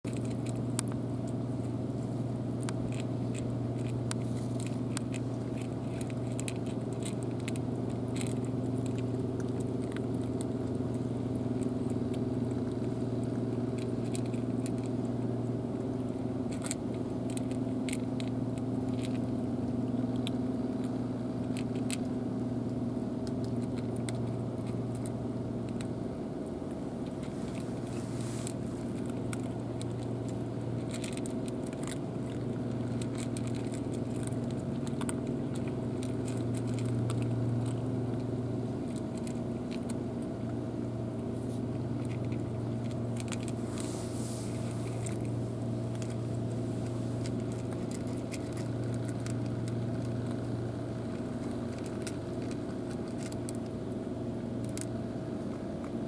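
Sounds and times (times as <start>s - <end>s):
low mechanical hum: 0.0s - 56.0s
cats crunching dry kibble: 0.1s - 56.0s.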